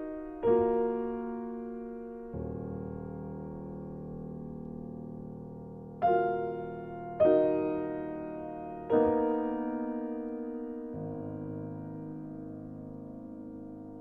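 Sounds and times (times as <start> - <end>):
slow solo piano chords: 0.0 - 14.0.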